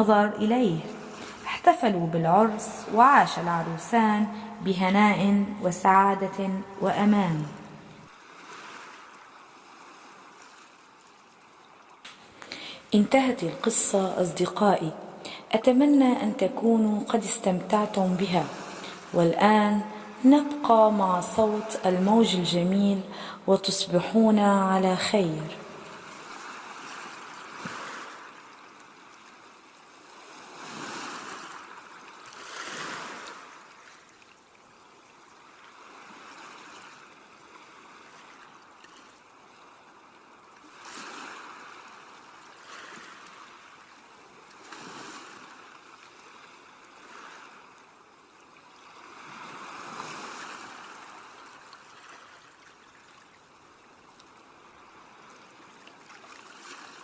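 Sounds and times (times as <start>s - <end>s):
sea waves breaking: 0.0s - 53.8s, 54.4s - 57.0s.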